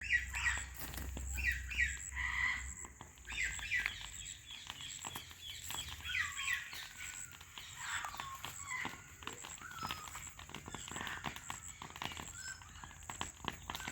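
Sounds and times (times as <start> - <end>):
parrots chattering calls: 0.0 - 12.8.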